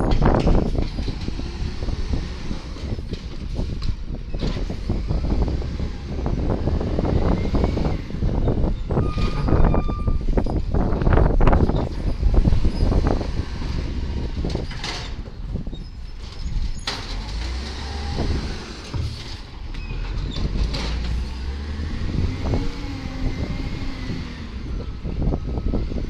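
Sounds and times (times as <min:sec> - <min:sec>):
garbage truck engine rumble: 0:00.0 - 0:26.0.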